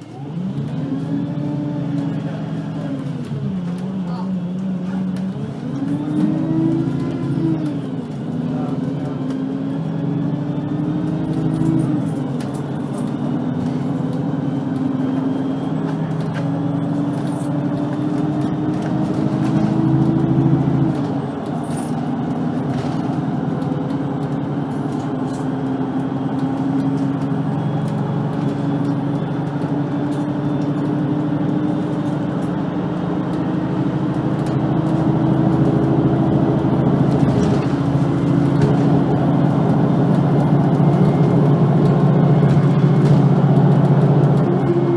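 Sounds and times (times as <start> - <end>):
bus engine pulling under load: 0.0 - 44.9.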